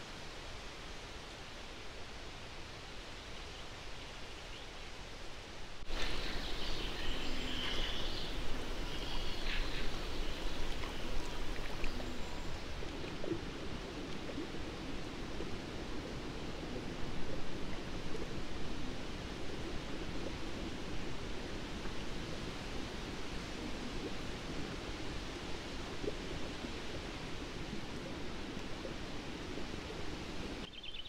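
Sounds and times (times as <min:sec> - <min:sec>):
steady hiss: 0:00.0 - 0:30.7.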